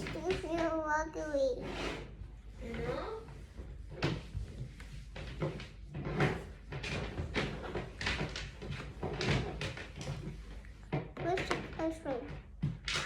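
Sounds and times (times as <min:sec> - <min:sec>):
irregular knocks and clatters: 0:00.0 - 0:13.0.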